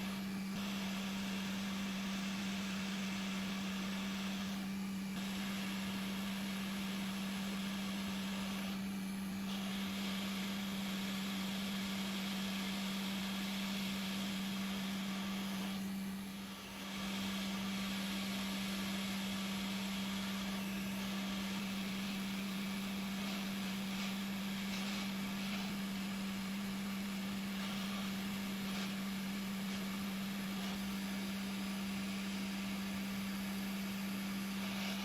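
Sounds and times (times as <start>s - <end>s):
hiss: 0.0s - 35.0s
steady low hum: 0.0s - 35.0s.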